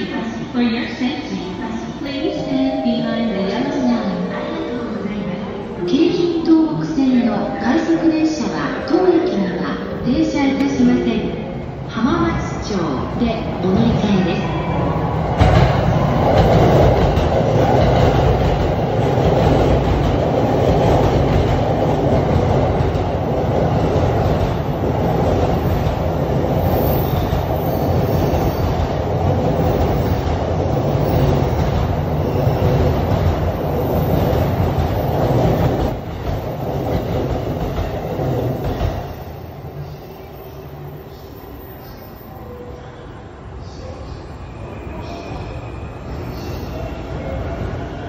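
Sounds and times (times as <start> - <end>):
train wheel and rail noise: 0.0 - 48.0.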